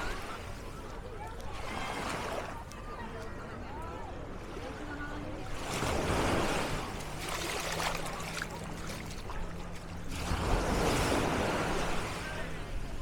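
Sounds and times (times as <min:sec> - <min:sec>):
small waves washing on sand: 0:00.0 - 0:13.0.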